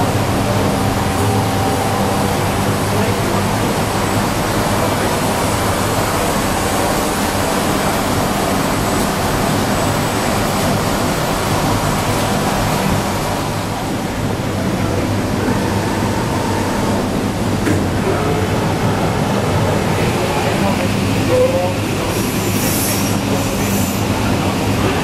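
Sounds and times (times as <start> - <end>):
woodworking machine running: 0.0 - 22.5.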